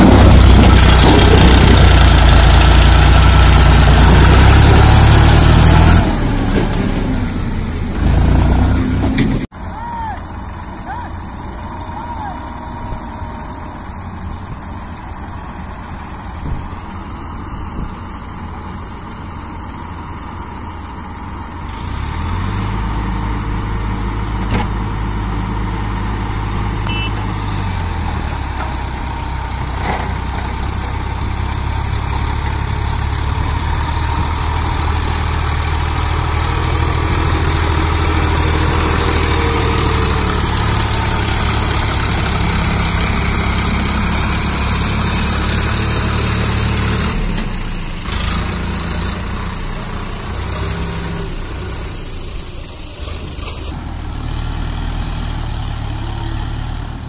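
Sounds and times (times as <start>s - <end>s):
backhoe loader engine running: 0.0s - 57.0s
tractor diesel engine under load: 0.0s - 57.0s.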